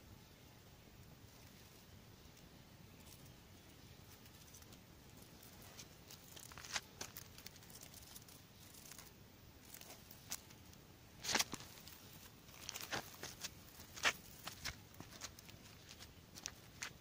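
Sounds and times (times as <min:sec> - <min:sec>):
twig scratching over gravelly dirt: 0:01.3 - 0:17.0.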